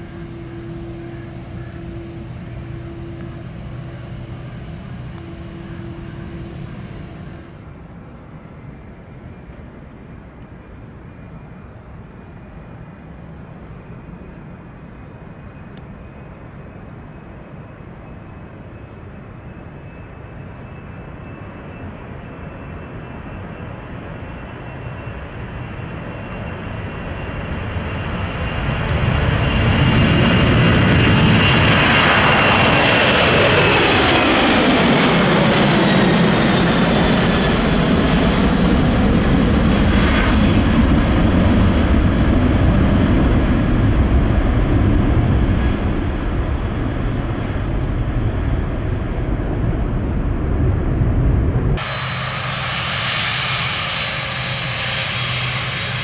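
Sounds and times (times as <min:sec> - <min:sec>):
deep jet engine roar: 0:00.0 - 0:56.0
jet engines whining: 0:00.0 - 0:56.0.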